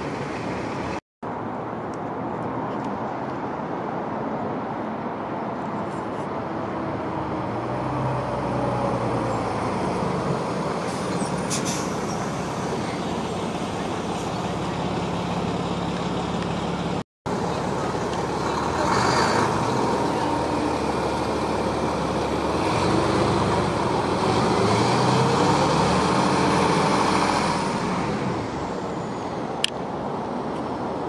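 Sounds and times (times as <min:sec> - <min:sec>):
bus engine running: 0:00.0 - 0:01.0, 0:05.8 - 0:31.0
road traffic: 0:00.0 - 0:31.0.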